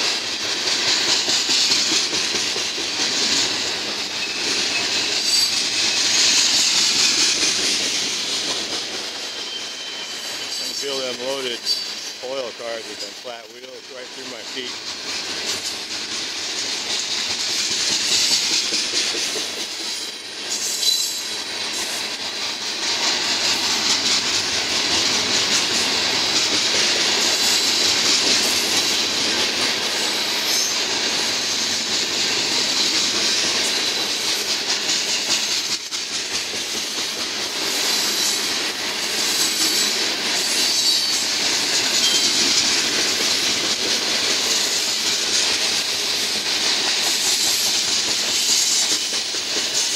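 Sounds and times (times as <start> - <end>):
train wheels clattering on rails: 0.0 - 49.9.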